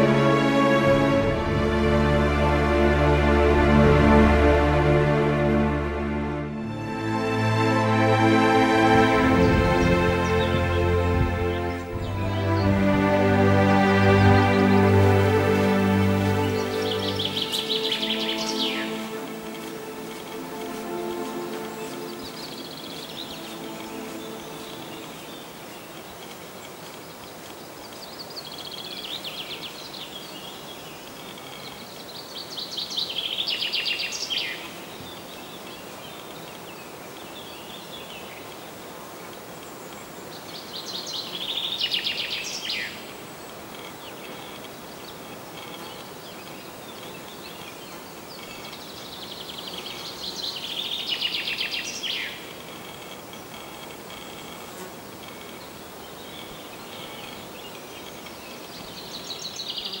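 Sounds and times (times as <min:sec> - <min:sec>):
outdoor hiss: 0:00.0 - 1:00.0
songbird singing: 0:00.0 - 1:00.0.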